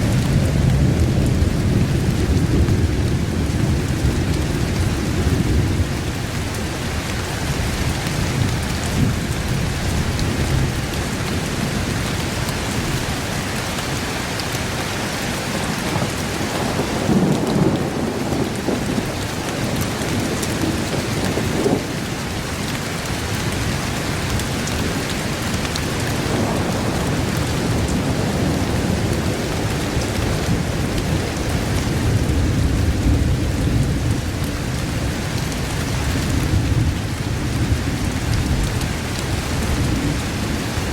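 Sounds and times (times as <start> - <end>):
low rolling thunder: 0.0 - 14.0, 15.4 - 40.9
heavy rain falling: 0.0 - 40.9.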